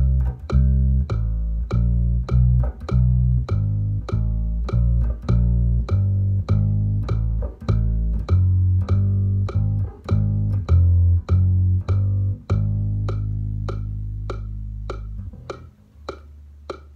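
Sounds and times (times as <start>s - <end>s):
electric bass notes: 0.0s - 16.9s
metronome ticking: 0.0s - 16.9s.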